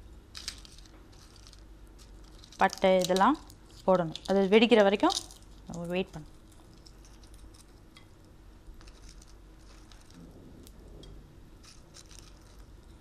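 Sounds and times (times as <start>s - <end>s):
spices crackling in hot oil: 0.1s - 10.8s.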